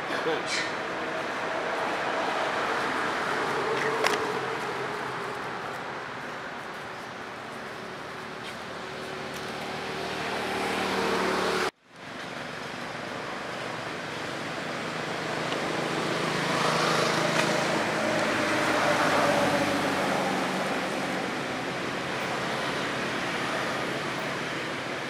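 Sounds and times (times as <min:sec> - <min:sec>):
outdoor rushing noise: 0:00.0 - 0:25.0.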